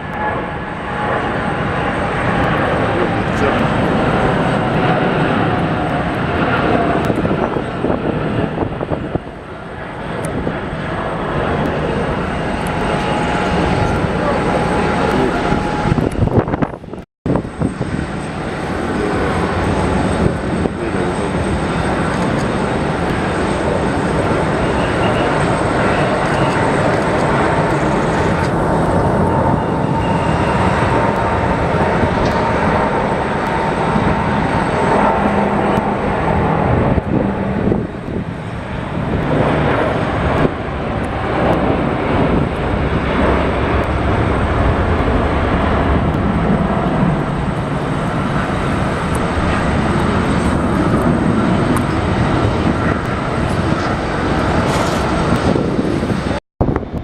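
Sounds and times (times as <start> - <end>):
jet engines roaring: 0.0 - 57.0
wind buffeting microphone: 0.0 - 57.0.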